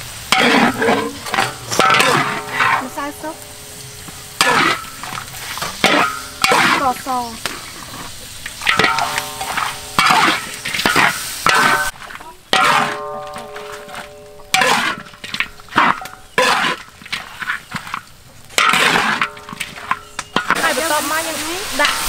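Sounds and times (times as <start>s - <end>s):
frying sizzle: 0.0s - 22.0s
metal spatula scraping wok: 0.0s - 22.0s.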